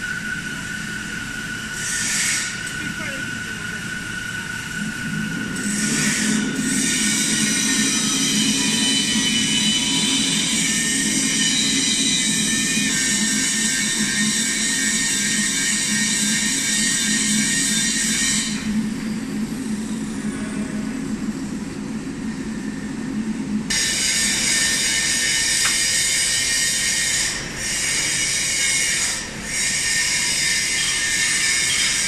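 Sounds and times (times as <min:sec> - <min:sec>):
electric gear drive hiss and whine: 0:00.0 - 0:32.0.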